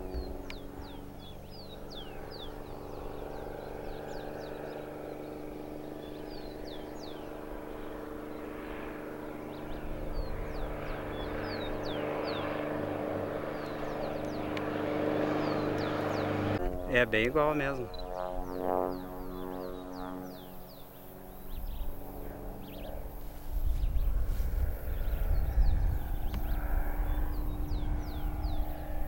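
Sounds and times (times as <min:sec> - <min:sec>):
birds chirping: 0:00.0 - 0:29.0
plane engine droning: 0:00.0 - 0:29.0.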